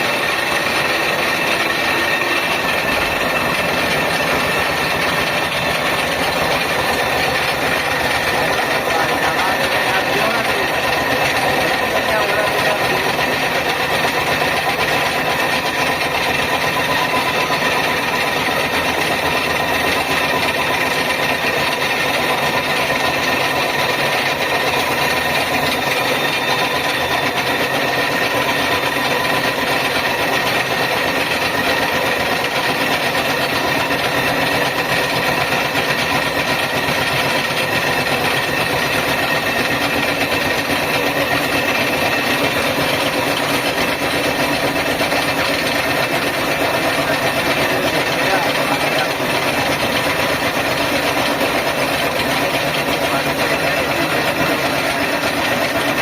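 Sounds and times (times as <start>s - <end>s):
machine running with whine: 0.0s - 56.0s.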